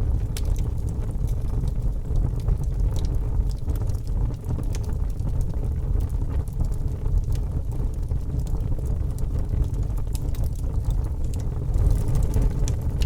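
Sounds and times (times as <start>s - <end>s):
burning wood crackling and popping: 0.0s - 13.0s
fire rumbling: 0.0s - 13.0s.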